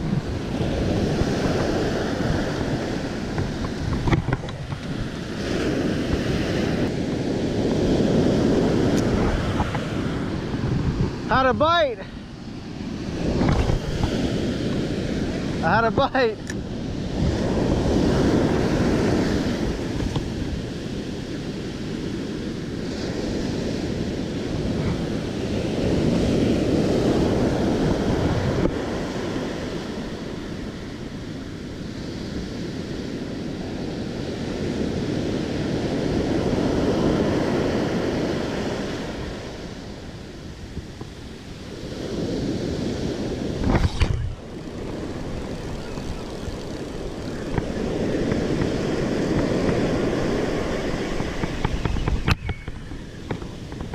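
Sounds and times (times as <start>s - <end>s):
ocean surf breaking: 0.0s - 53.9s
wind rumbling on microphone: 0.0s - 53.9s.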